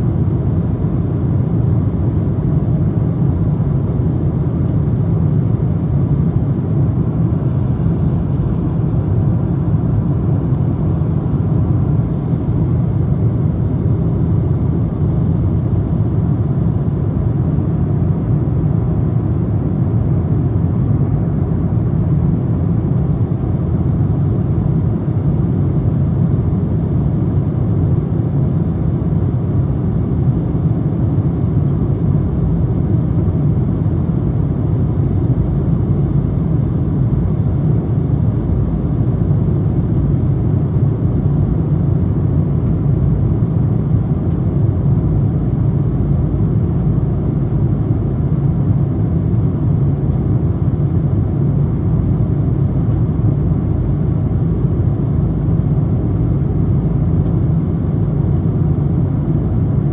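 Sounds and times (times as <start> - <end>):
airplane cabin engine and airflow roar: 0.0 - 59.9.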